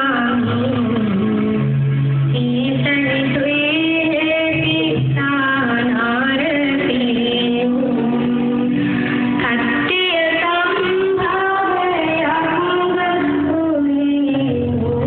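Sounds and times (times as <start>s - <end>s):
song with singing and bass: 0.0s - 15.0s.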